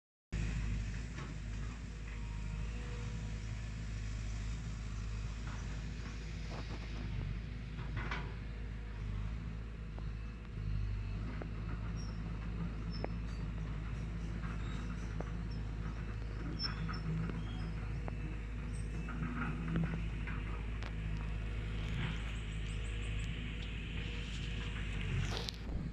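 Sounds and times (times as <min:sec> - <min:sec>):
steady low rumble: 0:00.4 - 0:25.9.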